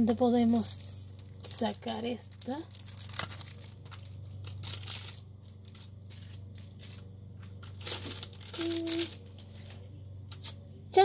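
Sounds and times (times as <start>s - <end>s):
plastic wrapping crinkling and tearing: 0.0s - 10.6s
steady low hum: 0.0s - 11.0s.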